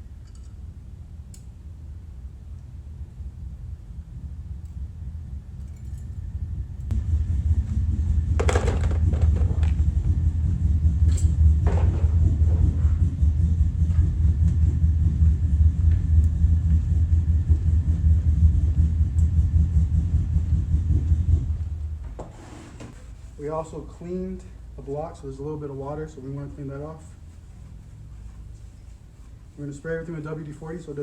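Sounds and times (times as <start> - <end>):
machine rumbling: 2.2 - 31.0.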